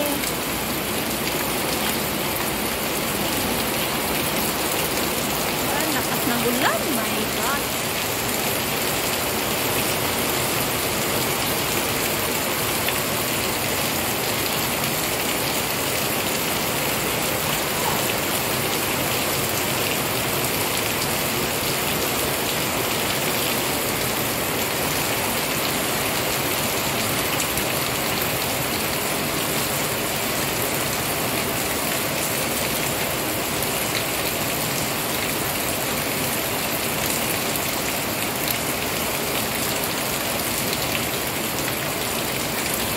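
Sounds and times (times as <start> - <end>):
heavy rain on trees: 0.0 - 42.9.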